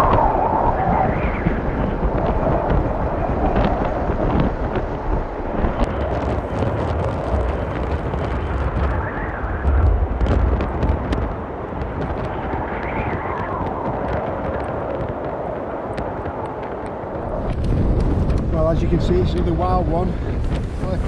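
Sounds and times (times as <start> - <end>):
sharp crackles and snaps: 0.0 - 18.6
strong wind buffeting microphone: 0.0 - 21.0.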